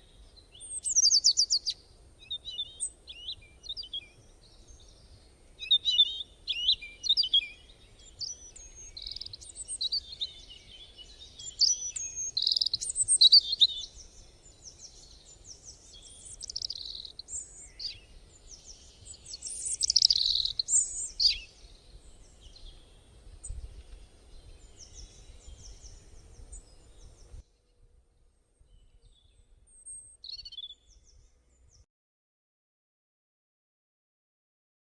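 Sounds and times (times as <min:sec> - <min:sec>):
birds chirping and trilling: 0:00.0 - 0:27.8, 0:28.6 - 0:31.9.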